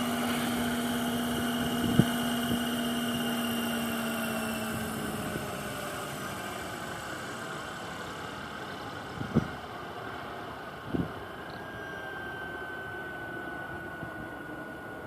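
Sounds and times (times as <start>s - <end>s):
faint high whine: 0.0s - 15.0s
model helicopter rushing noise: 0.0s - 15.0s.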